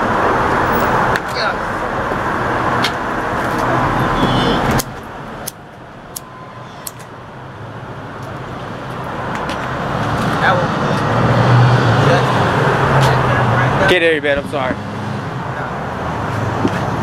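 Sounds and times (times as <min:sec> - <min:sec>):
cars passing: 0:00.0 - 0:17.0
vehicle approaching: 0:00.0 - 0:17.0.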